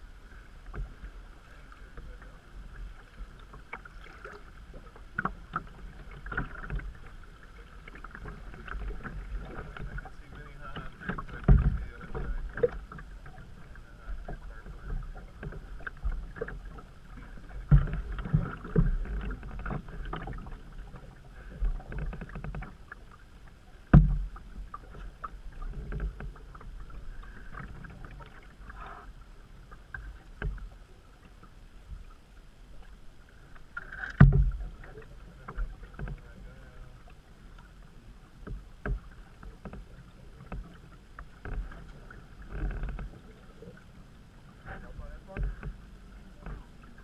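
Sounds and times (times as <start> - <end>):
water splashing and rushing: 0.0 - 47.0
paddle knocking against hull: 0.6 - 32.1, 32.8 - 47.0.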